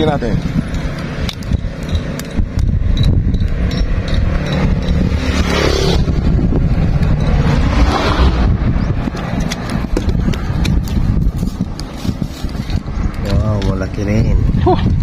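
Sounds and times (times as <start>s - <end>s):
low rumble: 0.0s - 15.0s
vehicles passing: 0.0s - 15.0s.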